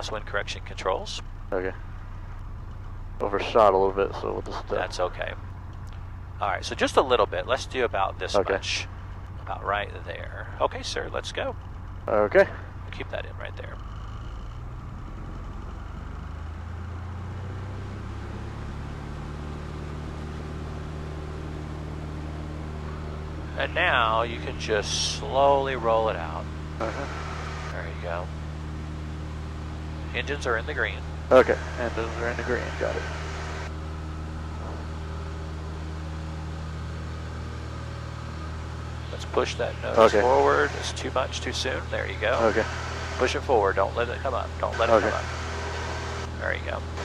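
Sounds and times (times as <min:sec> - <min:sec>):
propeller plane engine drone: 0:00.0 - 0:47.0.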